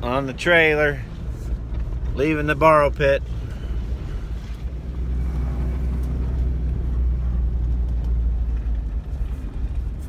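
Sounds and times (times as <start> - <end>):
truck engine and road drone: 0.0 - 10.0.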